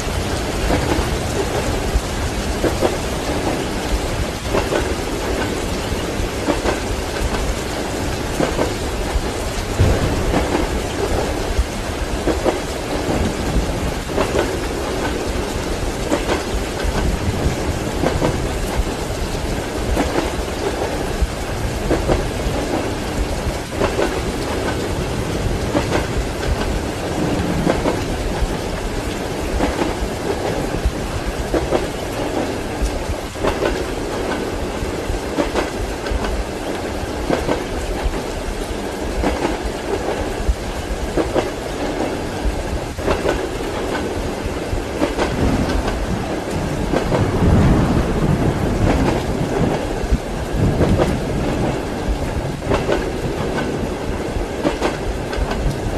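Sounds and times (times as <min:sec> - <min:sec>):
low roll of thunder: 0:00.0 - 0:55.9
rain: 0:00.0 - 0:55.9
train wheels knocking on rails: 0:00.0 - 0:55.9.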